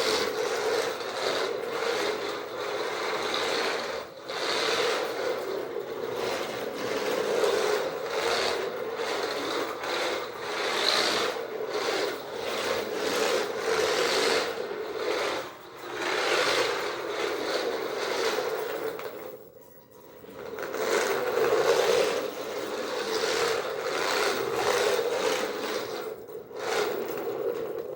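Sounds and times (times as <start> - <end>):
rc trike electric motor whirring: 0.0 - 19.2, 20.2 - 27.9.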